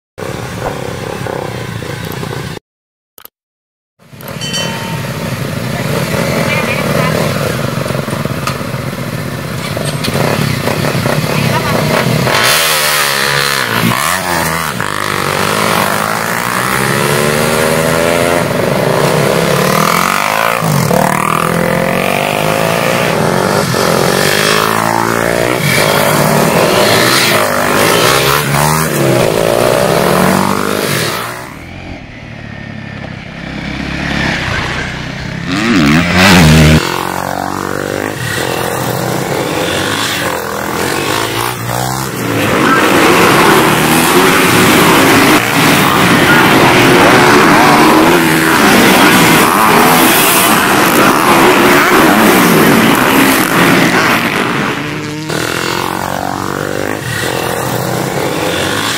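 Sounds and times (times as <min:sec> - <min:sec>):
motorcycle engines revving: 0:00.2 - 0:02.6, 0:04.0 - 0:58.9.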